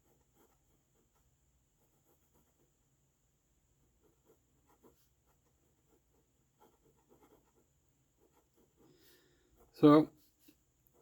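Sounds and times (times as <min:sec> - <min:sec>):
pen nib scratching on paper: 0:00.0 - 0:02.8, 0:03.8 - 0:11.0.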